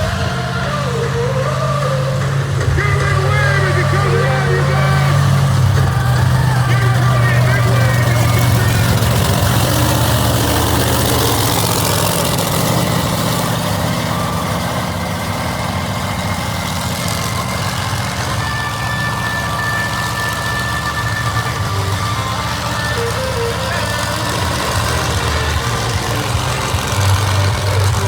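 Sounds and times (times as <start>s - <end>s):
truck engine idling loud: 0.0s - 28.0s.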